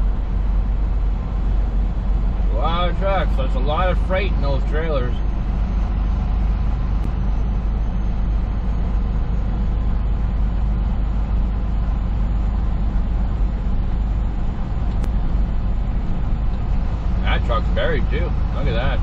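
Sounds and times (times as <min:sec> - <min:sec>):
road noise: 0:00.0 - 0:19.0
truck engine droning: 0:00.0 - 0:19.0.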